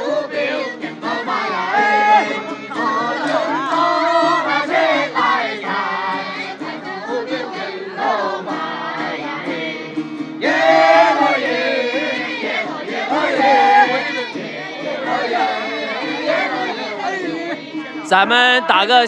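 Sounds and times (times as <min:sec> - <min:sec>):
women singing in chorus: 0:00.0 - 0:18.1.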